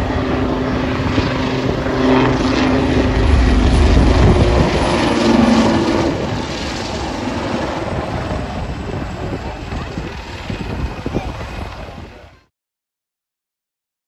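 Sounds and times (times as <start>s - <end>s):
helicopter flying past: 0.0s - 12.5s.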